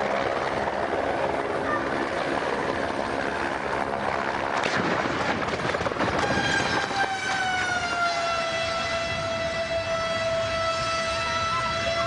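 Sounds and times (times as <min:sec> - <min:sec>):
helicopter rotor noise: 0:00.0 - 0:12.0.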